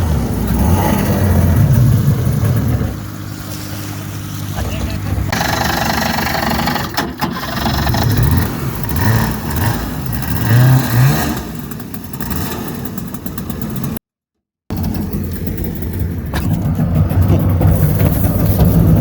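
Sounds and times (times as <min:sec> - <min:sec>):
boat engine revving: 0:00.0 - 0:14.0, 0:14.7 - 0:19.0.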